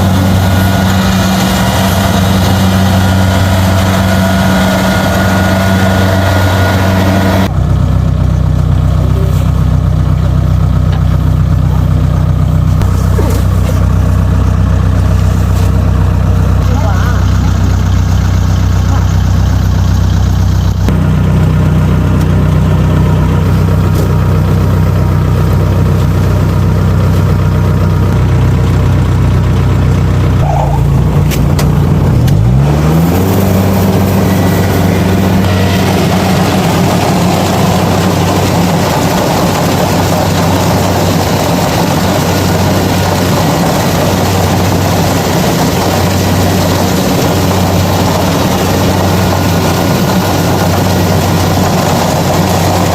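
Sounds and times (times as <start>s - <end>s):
combine harvester diesel engine: 0.0s - 52.9s
rough mechanical noise: 0.0s - 52.9s.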